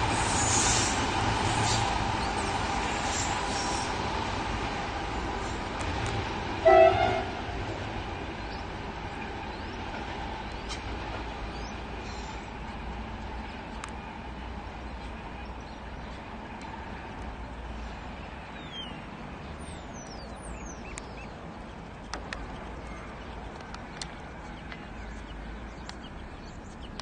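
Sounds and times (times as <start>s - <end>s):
diesel locomotive rumbling: 0.0s - 27.0s.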